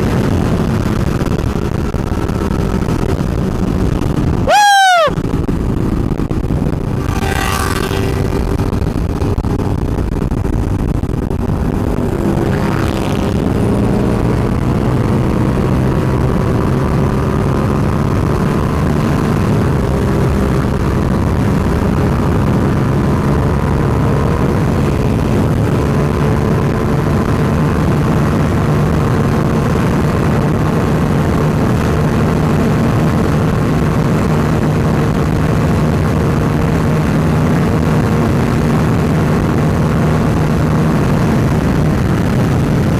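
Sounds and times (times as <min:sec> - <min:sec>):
motorcycle engine accelerating: 0:00.0 - 0:42.9
wind rush: 0:00.0 - 0:42.9.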